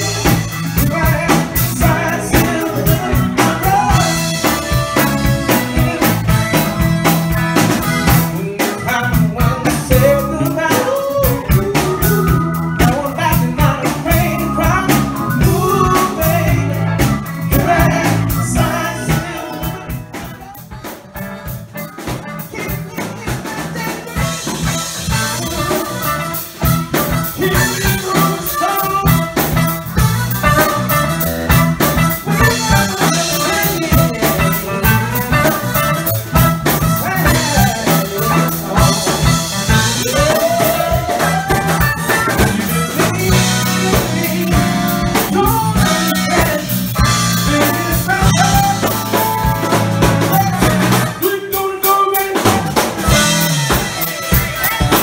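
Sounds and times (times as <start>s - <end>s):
drum kit beat: 0.0s - 55.0s
live band playing r and b: 0.0s - 55.0s
person singing: 0.0s - 55.0s.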